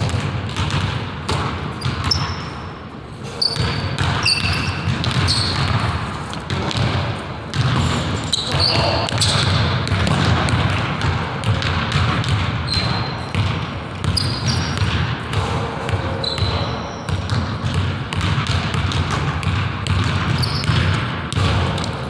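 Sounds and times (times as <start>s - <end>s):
basketball bouncing on hardwood: 0.0s - 2.4s, 3.5s - 22.0s
sneakers squeaking on floor: 0.0s - 22.0s.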